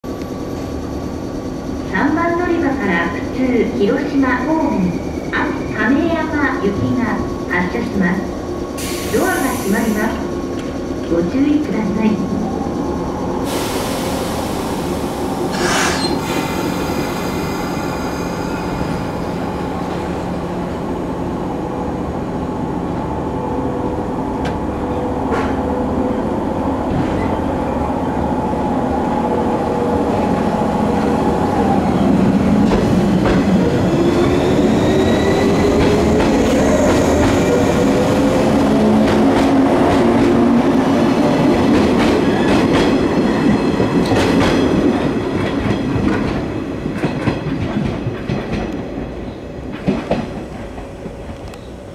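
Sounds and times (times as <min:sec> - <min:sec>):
train traction motors humming: 0:00.1 - 0:51.9.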